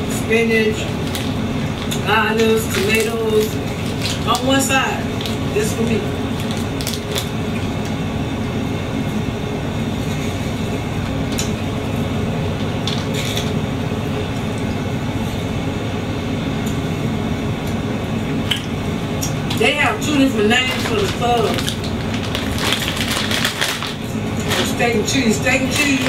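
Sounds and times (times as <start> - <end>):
truck engine and road rumble: 0.0 - 26.0.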